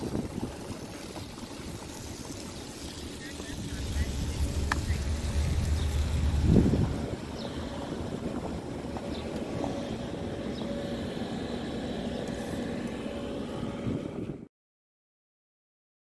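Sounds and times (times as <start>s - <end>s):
low street rumble: 0.0s - 14.5s
faint steady hum: 1.4s - 14.4s.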